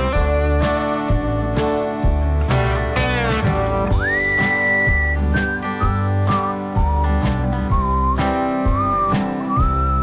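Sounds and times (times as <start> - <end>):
plucked guitar music: 0.0 - 10.0
sustained bass: 0.0 - 10.0.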